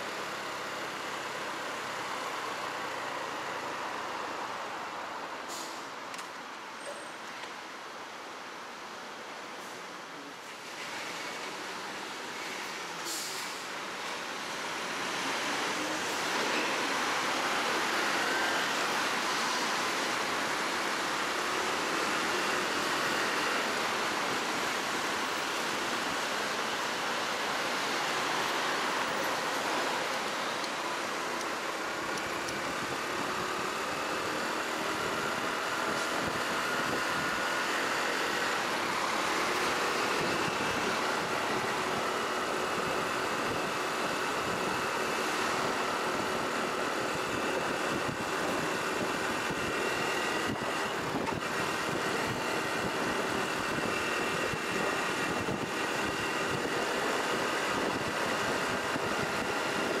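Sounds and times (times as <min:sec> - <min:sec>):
wind and road noise: 0:00.0 - 1:00.0.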